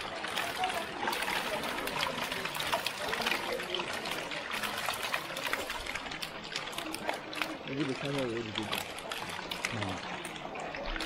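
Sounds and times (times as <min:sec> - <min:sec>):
fish splashing: 0:00.0 - 0:11.0
water trickling: 0:00.0 - 0:11.0.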